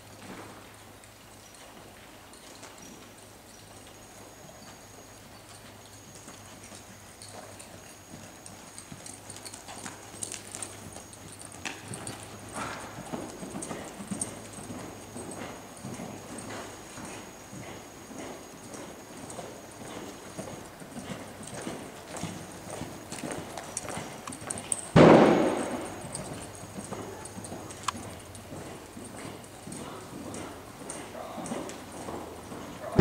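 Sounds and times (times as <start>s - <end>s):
horse hoofbeats on soft dirt: 0.0s - 33.0s.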